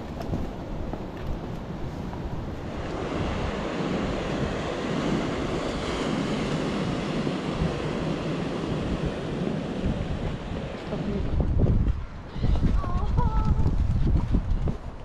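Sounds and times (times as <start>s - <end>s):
sea waves washing: 0.0s - 13.0s
wind on microphone: 0.0s - 15.0s.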